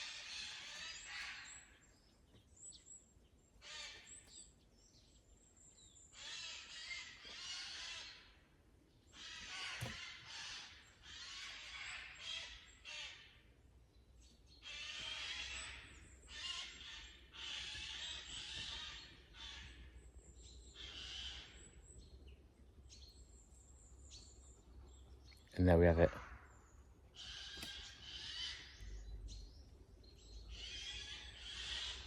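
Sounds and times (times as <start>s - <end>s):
birds chattering harshly: 0.0s - 32.0s.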